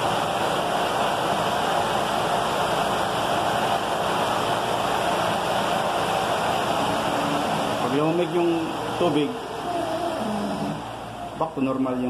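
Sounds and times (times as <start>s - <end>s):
radiator fan motor running: 0.0s - 12.0s.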